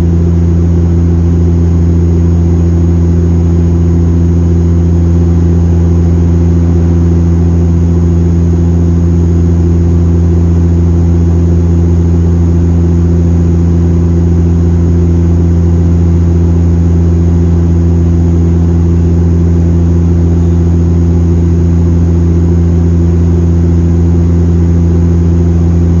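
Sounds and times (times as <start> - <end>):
airplane engines droning in cabin: 0.0 - 26.0.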